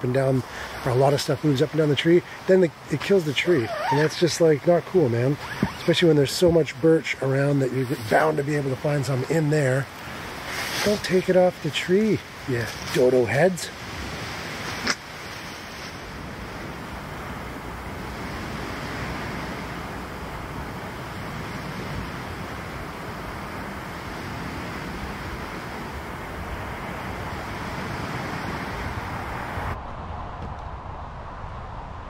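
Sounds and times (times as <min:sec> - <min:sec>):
lake waves washing onto beach: 0:00.0 - 0:29.8
wind: 0:00.0 - 0:32.0.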